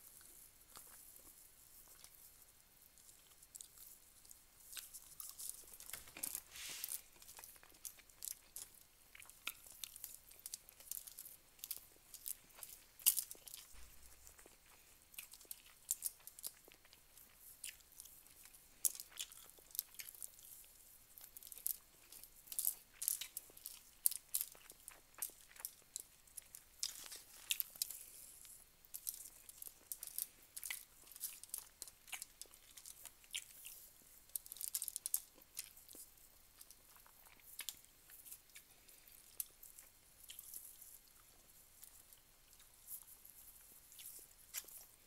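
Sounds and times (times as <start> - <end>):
chewing and mouth smacks: 0.1 - 45.0.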